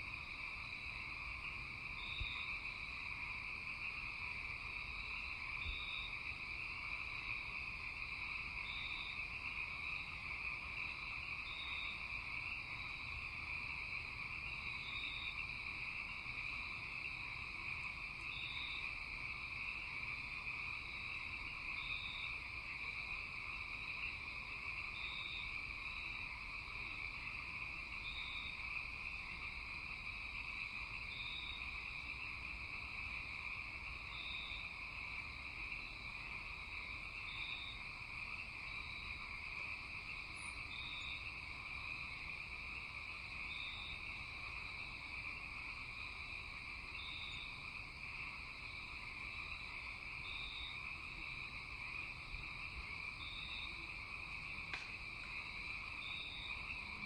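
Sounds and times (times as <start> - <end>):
frogs and insects chorus: 0.0 - 57.0.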